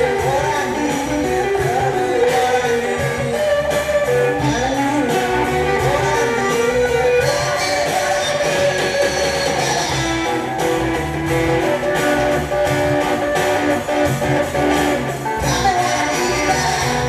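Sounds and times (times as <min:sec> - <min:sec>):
bass guitar: 0:00.0 - 0:17.0
drum kit: 0:00.0 - 0:17.0
electric guitars: 0:00.0 - 0:17.0
vocal or lead guitar melody: 0:00.0 - 0:17.0.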